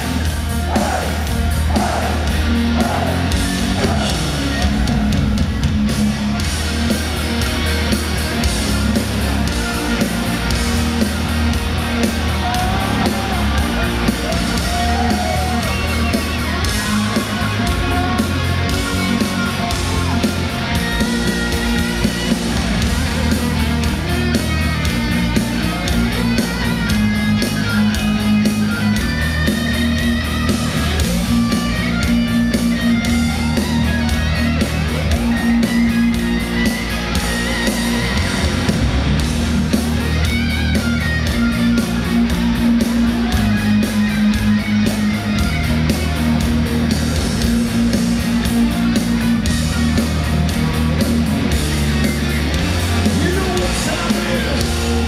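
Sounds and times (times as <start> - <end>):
bass guitar: 0.0 - 55.0
distorted rhythm guitars: 0.0 - 55.0
lead electric guitar with bends: 0.0 - 55.0
steady drums: 0.0 - 55.0.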